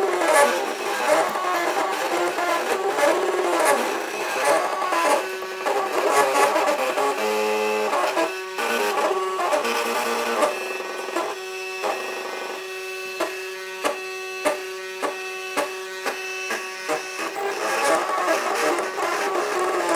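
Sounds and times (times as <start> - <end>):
stepper motors whining: 0.0 - 19.9.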